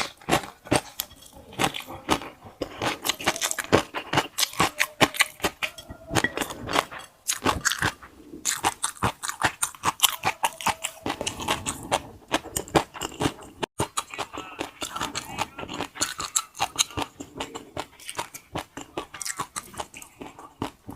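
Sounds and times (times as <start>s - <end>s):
crunchy chewing and biting: 0.0s - 20.9s.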